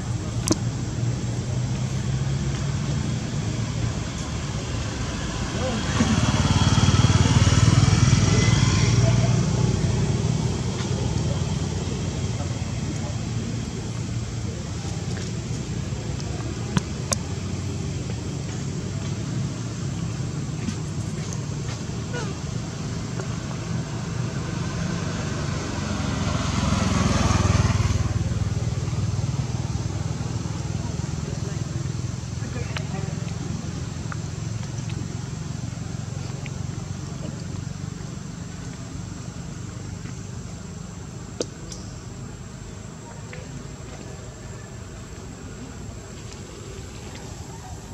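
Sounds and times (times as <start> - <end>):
low motor hum: 0.0 - 47.9
low outdoor rumble: 0.0 - 47.9.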